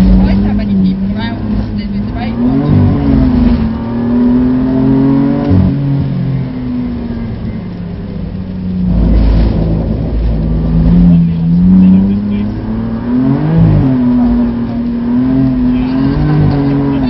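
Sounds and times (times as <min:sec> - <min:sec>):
car engine from inside cabin: 0:00.0 - 0:17.0
loud low rumble: 0:00.0 - 0:17.0.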